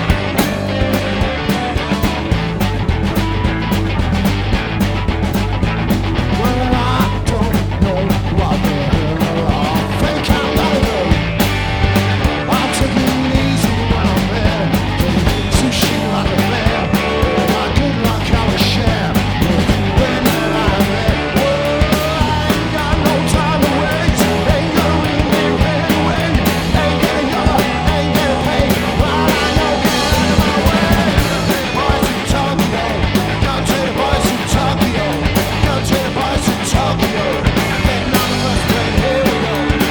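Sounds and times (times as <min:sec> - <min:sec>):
drum beat: 0:00.0 - 0:39.9
electric guitar and bass: 0:00.0 - 0:39.9
person singing: 0:06.3 - 0:11.4, 0:12.2 - 0:39.9.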